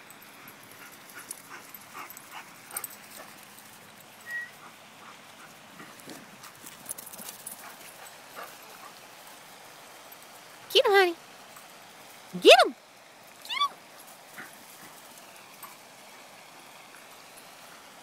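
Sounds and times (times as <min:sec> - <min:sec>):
running paws on grass: 0:00.0 - 0:18.0.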